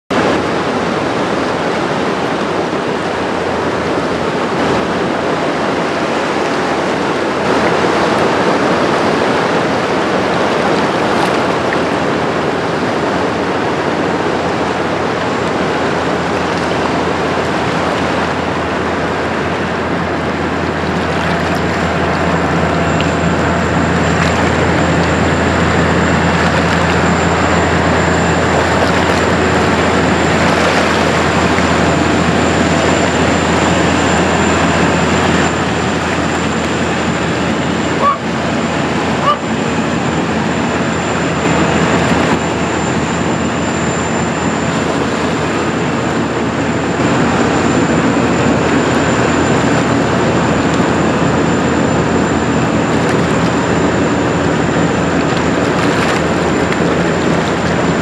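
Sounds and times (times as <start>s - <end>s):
diesel engine hum: 0.1s - 58.0s
ship bow wave rushing and splashing: 0.1s - 58.0s.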